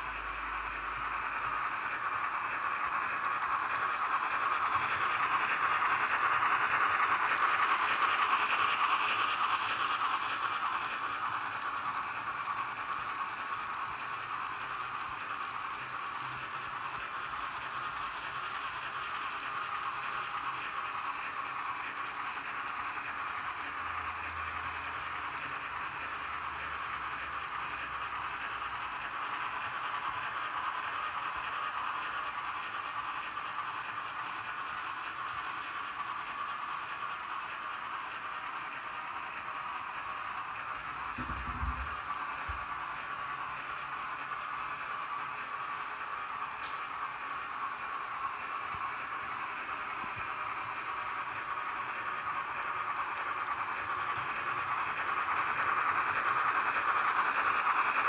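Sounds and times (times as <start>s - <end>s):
model train steam hiss: 0.0s - 58.0s
wheels on rails: 0.0s - 58.0s.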